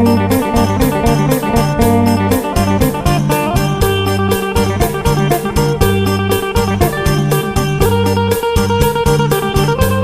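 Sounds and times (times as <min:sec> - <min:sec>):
bass line: 0:00.0 - 0:10.0
plucked lute tune: 0:00.0 - 0:10.0
steady beat: 0:00.0 - 0:10.0.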